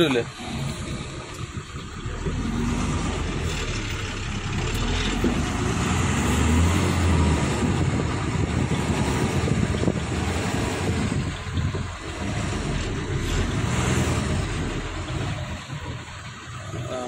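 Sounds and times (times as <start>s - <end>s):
lorry engine rumbling: 0.0s - 17.0s.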